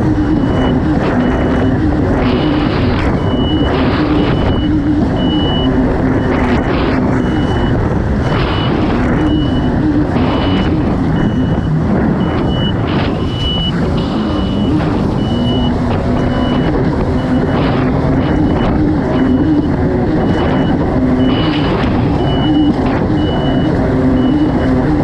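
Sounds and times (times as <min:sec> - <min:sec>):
jet ski engine running hard: 0:00.0 - 0:25.0
rushing water: 0:00.0 - 0:25.0
wind: 0:00.0 - 0:25.0.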